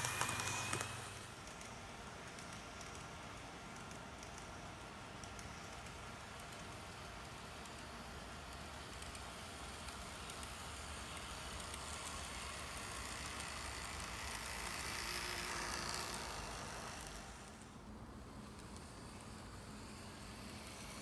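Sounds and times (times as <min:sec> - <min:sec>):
model train motor whirring: 0:00.0 - 0:03.2, 0:05.3 - 0:21.0.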